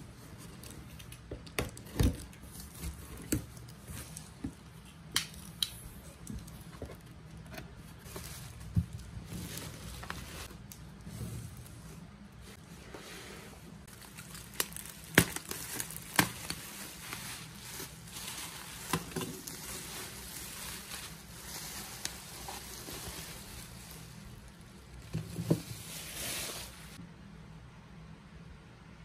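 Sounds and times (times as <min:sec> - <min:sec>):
bubble wrap crinkling: 0:01.9 - 0:12.1, 0:13.8 - 0:27.0.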